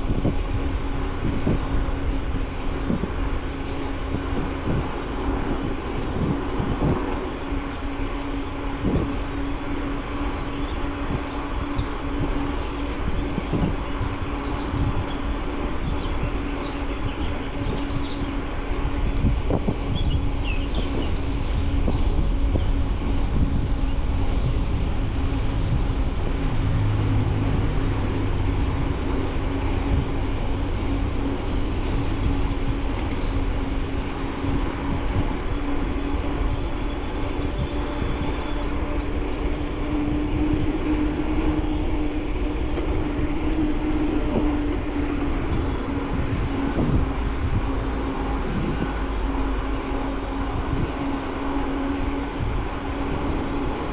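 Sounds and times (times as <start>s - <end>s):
bicycle rolling on pavement: 0.0s - 53.9s.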